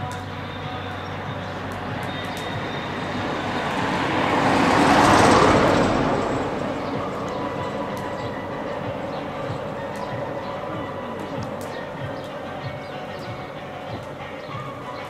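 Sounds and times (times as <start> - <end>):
car driving past: 0.3 - 12.8.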